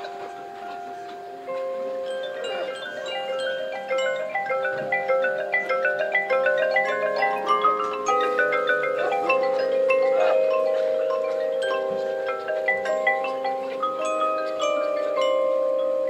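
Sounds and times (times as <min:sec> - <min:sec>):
glockenspiel notes: 0:00.0 - 0:16.0
marimba notes: 0:00.0 - 0:16.0.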